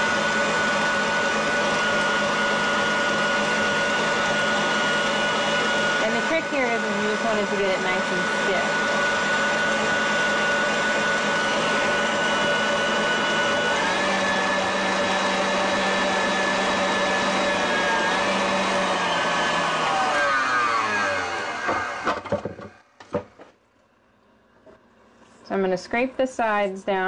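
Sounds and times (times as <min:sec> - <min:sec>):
stand mixer motor whine: 0:00.0 - 0:22.8.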